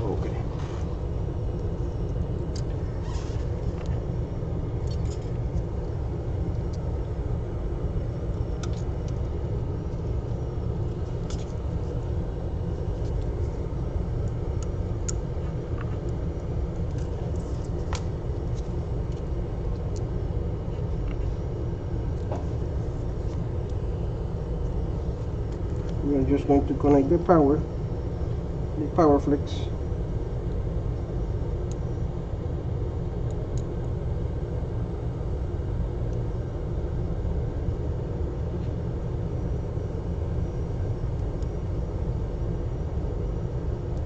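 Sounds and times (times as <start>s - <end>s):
low background rumble: 0.0s - 44.0s.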